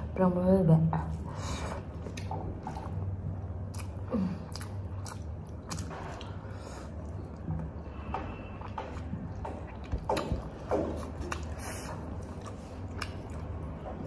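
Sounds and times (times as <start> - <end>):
wet chewing and mouth smacks: 1.0 - 7.8, 8.6 - 14.0.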